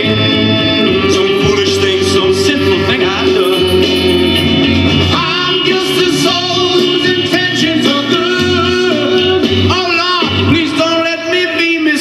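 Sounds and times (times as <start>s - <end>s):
rock band music: 0.0s - 12.0s
man singing: 0.8s - 12.0s.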